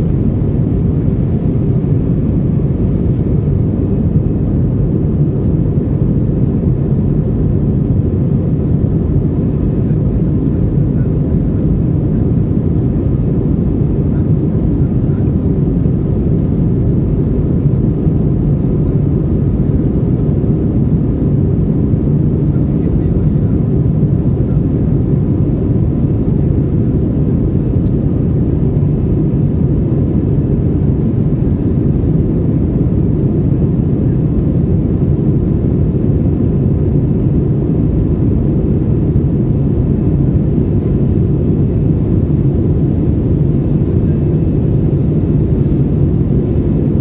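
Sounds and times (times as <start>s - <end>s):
airliner engine roar: 0.0s - 47.0s.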